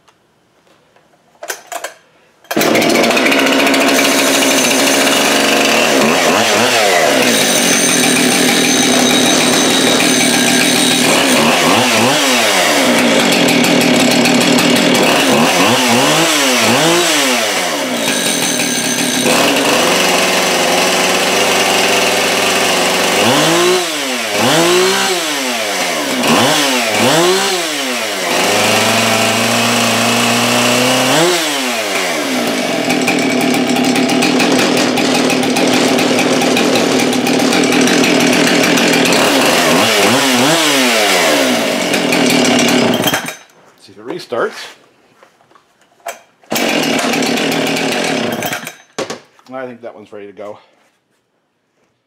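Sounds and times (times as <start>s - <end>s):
chainsaw revving: 2.5s - 43.5s, 46.5s - 48.9s.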